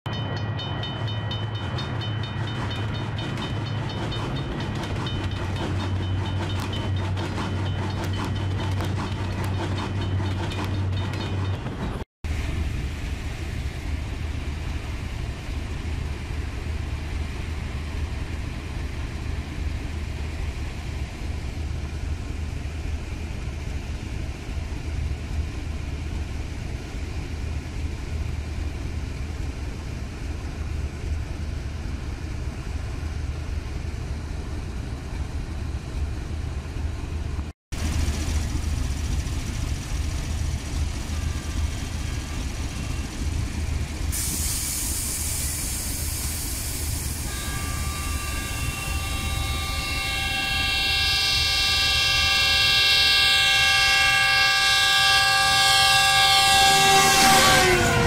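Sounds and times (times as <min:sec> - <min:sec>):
diesel locomotive and train passing: 0:00.1 - 0:58.0.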